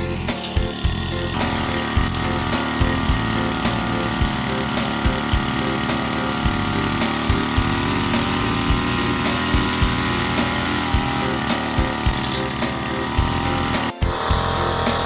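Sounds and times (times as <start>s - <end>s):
grass cutter engine running: 0.0s - 15.0s.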